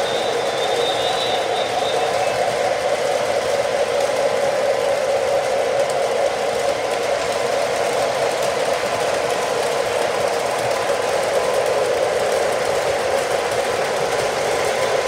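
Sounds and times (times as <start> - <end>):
model train motors whirring: 0.0 - 15.0
wheels rolling on rails: 0.0 - 15.0.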